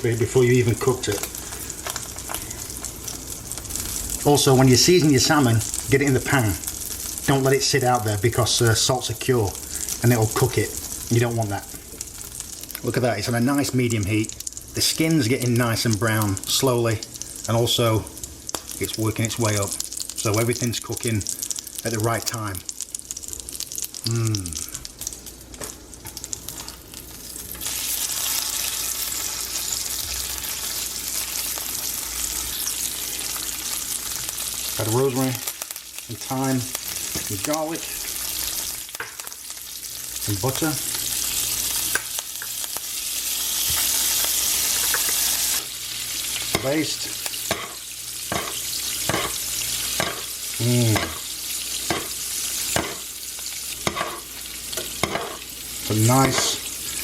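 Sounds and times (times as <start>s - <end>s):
fish sizzling in a pan: 0.0s - 57.0s.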